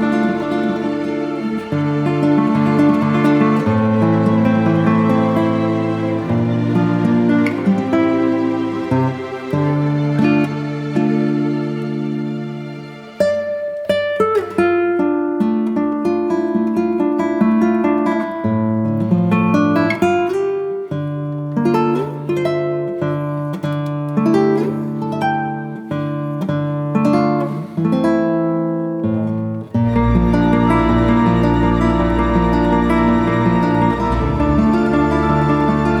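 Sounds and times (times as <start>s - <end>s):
acoustic guitar melody: 0.0s - 36.0s.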